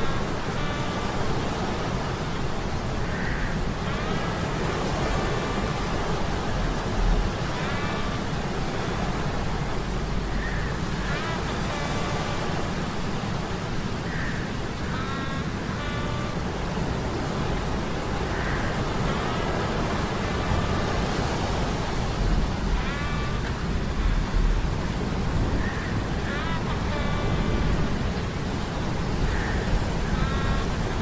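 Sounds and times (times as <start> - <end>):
stormy surf: 0.0 - 31.0.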